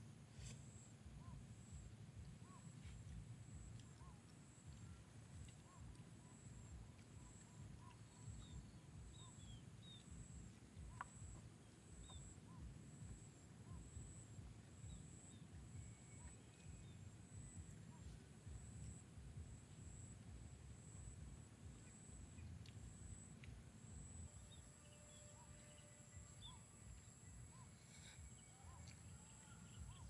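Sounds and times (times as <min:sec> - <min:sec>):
faint bird chirps: 0:00.3 - 0:30.0.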